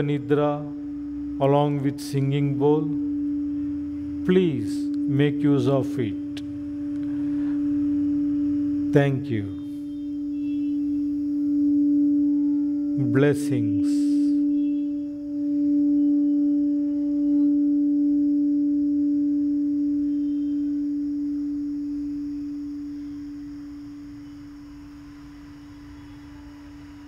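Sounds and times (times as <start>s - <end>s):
singing bowl ringing: 0.0s - 27.0s.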